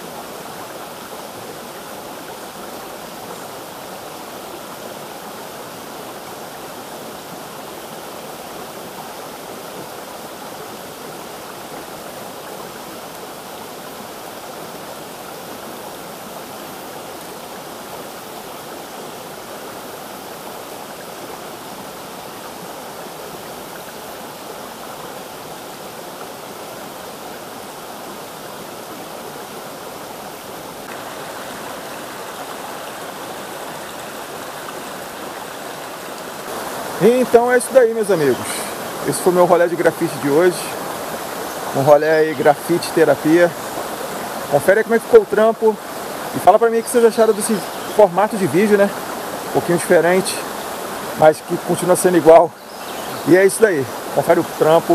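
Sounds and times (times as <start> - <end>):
stream and waterfall over rocks: 0.0 - 54.9.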